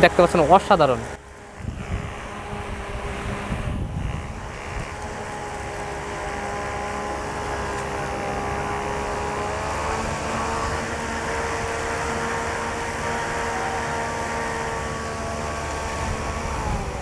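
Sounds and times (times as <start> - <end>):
fan motor whirring: 0.0 - 17.0.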